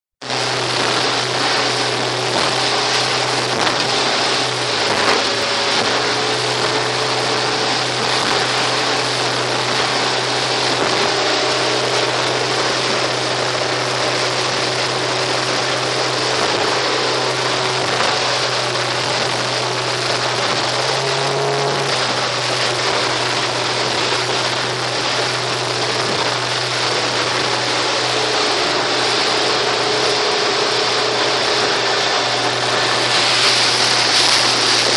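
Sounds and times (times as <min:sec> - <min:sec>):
outboard motor droning: 0:00.2 - 0:34.9
rush of wind and water: 0:00.2 - 0:34.9.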